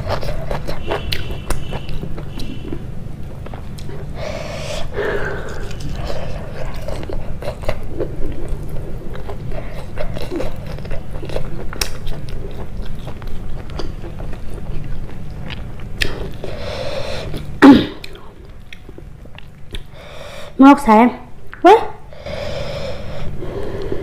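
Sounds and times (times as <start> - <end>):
mouth chewing food: 0.0 - 20.0.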